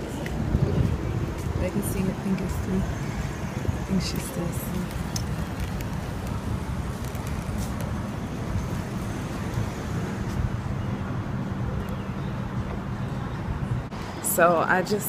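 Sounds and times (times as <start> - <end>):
low rumble of vehicle noise: 0.0 - 15.0.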